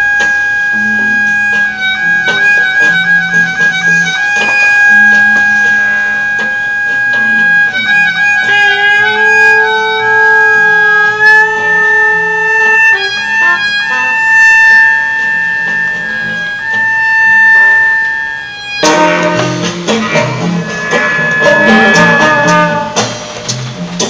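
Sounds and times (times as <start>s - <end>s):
steady electronic tones: 0.0s - 23.4s
piezo speaker buzzing against wood: 0.0s - 24.0s.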